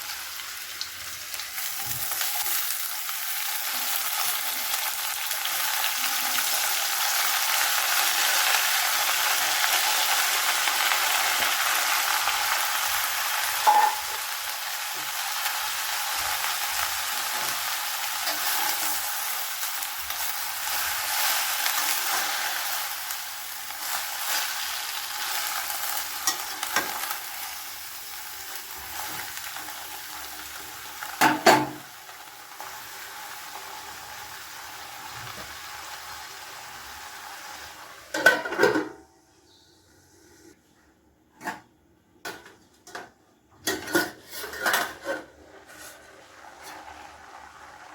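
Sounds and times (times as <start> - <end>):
food sizzling in hot oil: 0.0 - 38.2, 45.4 - 47.9.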